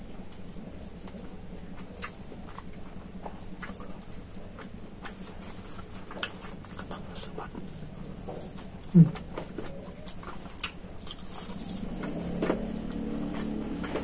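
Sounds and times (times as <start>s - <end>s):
low steady hum: 0.0s - 14.0s
chewing food: 0.1s - 14.0s.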